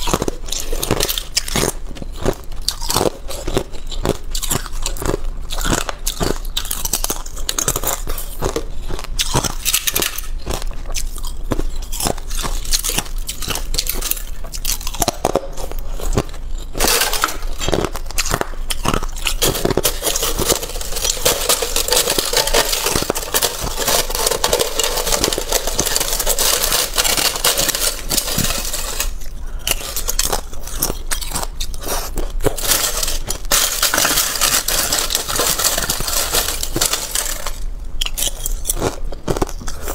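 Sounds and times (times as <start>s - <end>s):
metal spoon scraping crushed ice: 0.0s - 39.9s
teeth crunching ice: 0.0s - 39.9s.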